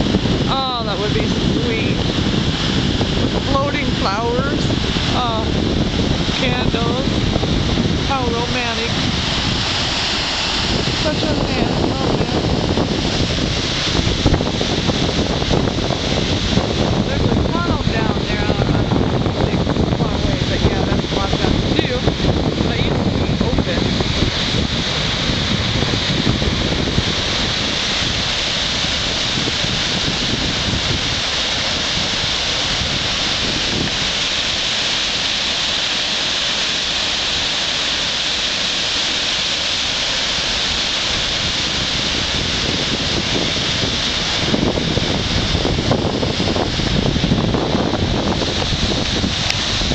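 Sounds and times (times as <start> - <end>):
deep rumble: 0.0 - 49.9
waterfall rushing: 0.0 - 49.9.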